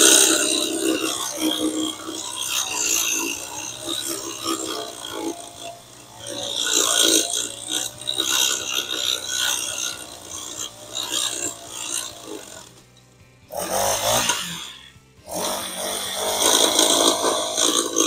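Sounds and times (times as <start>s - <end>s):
sidewalk edger grinding: 0.0s - 18.0s.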